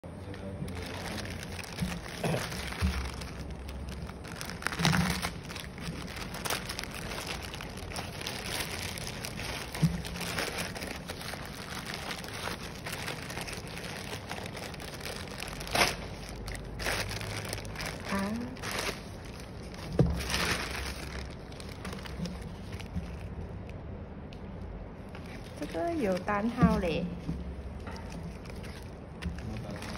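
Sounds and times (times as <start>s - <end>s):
plastic bags crinkling: 0.2s - 23.7s, 27.7s - 29.9s
plastic bags tearing: 0.4s - 23.4s, 28.1s - 29.9s.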